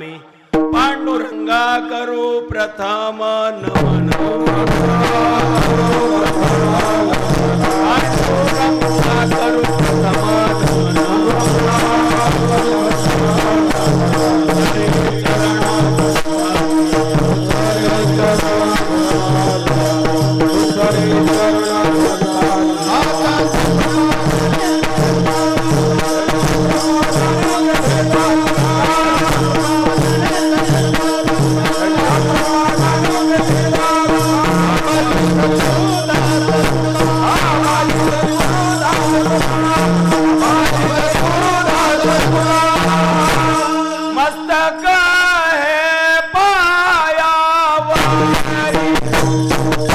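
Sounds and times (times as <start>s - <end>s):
repeating drum pattern: 3.7s - 45.4s, 48.0s - 49.9s
fast cymbal strokes: 4.4s - 44.9s.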